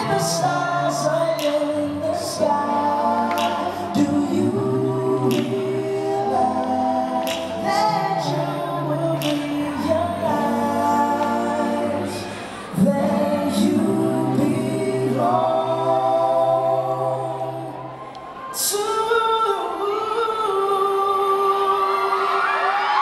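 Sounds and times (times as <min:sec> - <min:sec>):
voices singing harmony: 0:00.0 - 0:23.0.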